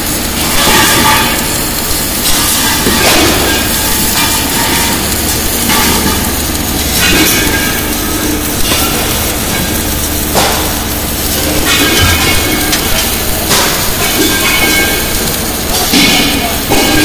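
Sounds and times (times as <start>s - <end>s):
low hum: 0.0s - 15.8s
welding machine running: 0.0s - 17.0s.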